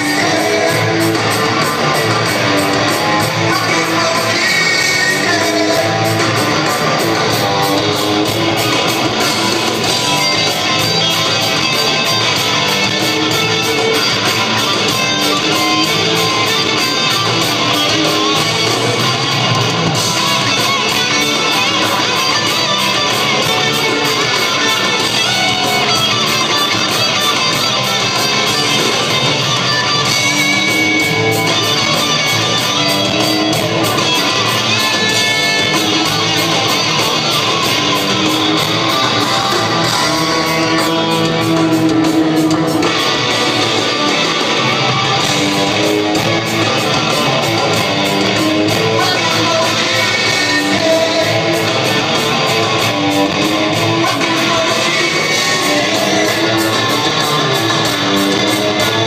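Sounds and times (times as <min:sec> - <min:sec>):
electric guitar: 0:00.0 - 0:59.0
live rock band playing: 0:00.0 - 0:59.0.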